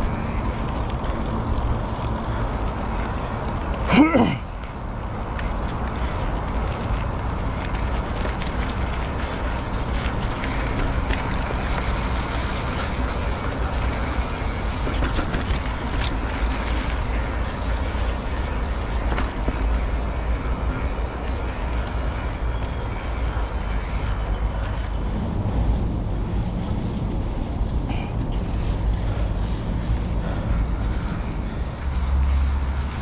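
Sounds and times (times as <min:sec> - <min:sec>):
bicycle clicks and rattles: 0:00.0 - 0:24.9, 0:28.1 - 0:33.0
bicycle road rumble: 0:00.0 - 0:33.0.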